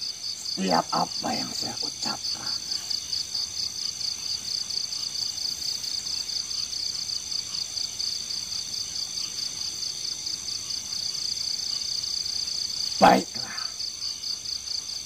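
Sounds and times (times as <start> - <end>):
crickets chirping: 0.0 - 15.0
higher insect tones: 0.0 - 15.0.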